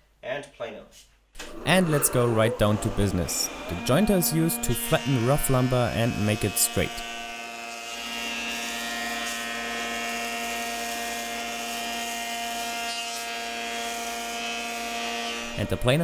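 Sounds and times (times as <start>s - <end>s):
jointer planing wooden board: 1.4s - 16.0s.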